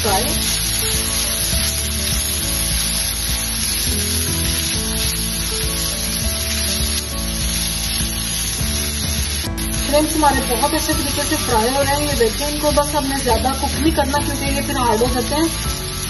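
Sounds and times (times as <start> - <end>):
background music: 0.0 - 16.0
food sizzling in a frying pan: 0.0 - 16.0.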